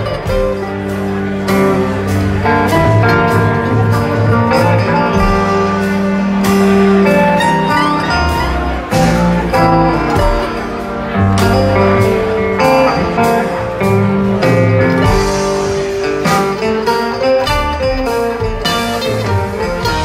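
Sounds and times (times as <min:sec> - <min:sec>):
live band playing instrumental: 0:00.0 - 0:20.0.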